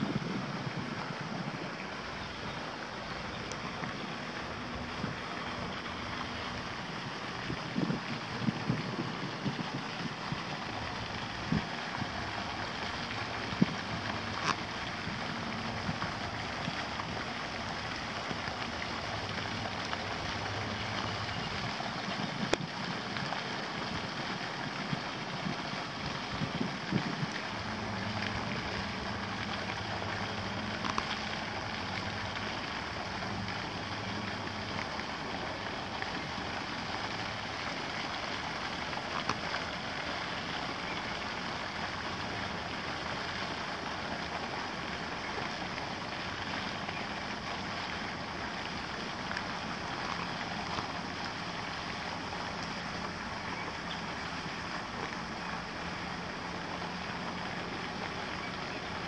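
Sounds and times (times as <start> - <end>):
outdoor background rush: 0.0 - 59.0.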